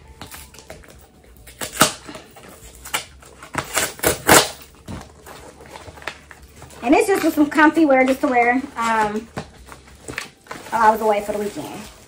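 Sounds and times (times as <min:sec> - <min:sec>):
packing tape ripping off cardboard: 0:00.2 - 0:12.0.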